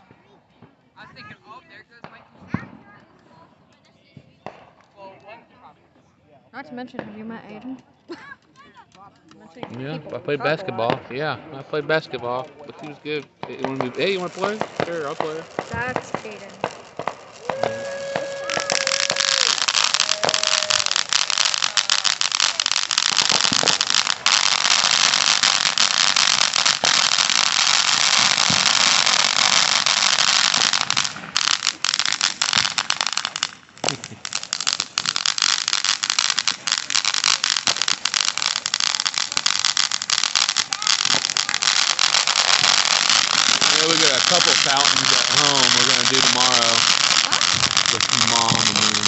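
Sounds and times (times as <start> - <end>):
fireworks crackling: 0.0 - 5.7, 6.6 - 49.0.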